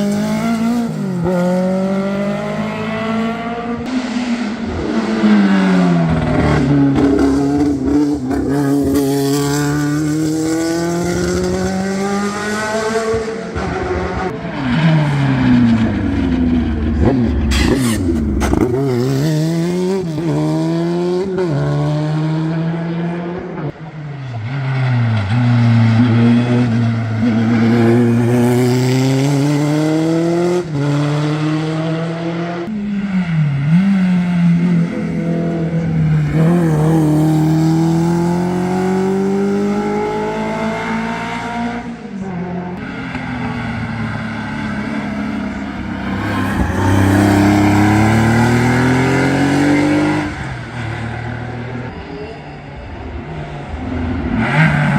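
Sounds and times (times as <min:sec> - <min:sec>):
race car engine accelerating: 0:00.0 - 0:52.1.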